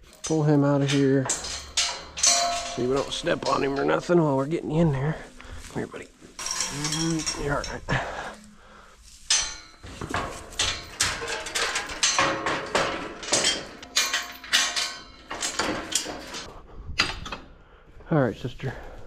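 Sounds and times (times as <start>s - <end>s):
metal gates clanking and rattling: 0.0s - 17.5s.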